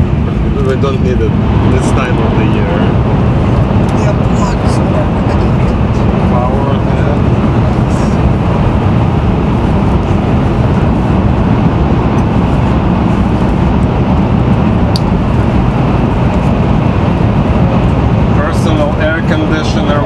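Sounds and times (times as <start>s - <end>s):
train rumble inside cabin: 0.0s - 20.0s.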